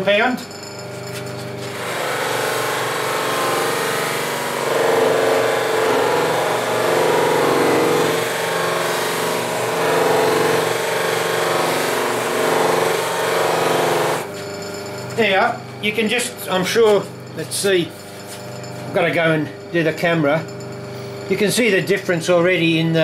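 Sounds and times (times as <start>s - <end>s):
bench grinder humming: 0.7s - 22.8s.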